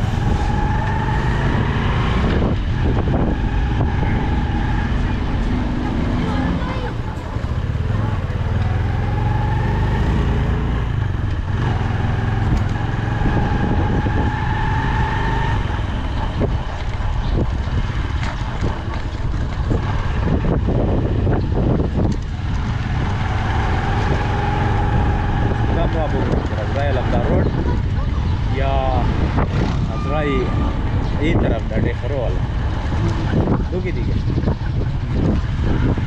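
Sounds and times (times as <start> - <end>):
motorcycle engine running: 0.0 - 36.0
road noise: 0.0 - 36.0.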